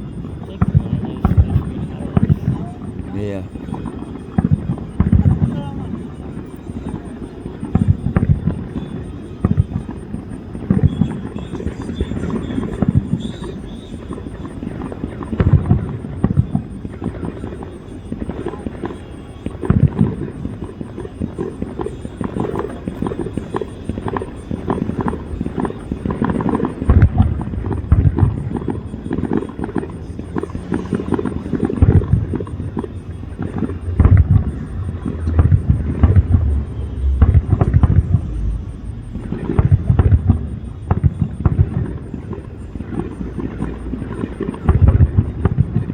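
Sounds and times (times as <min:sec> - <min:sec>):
fireworks bursts and booms: 0:00.0 - 0:45.9
fireworks crackling: 0:00.0 - 0:45.9.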